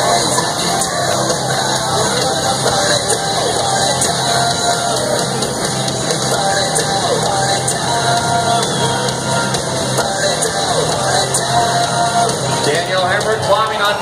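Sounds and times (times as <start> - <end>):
grandstand crowd noise: 0.0 - 14.0
music playing: 0.0 - 14.0.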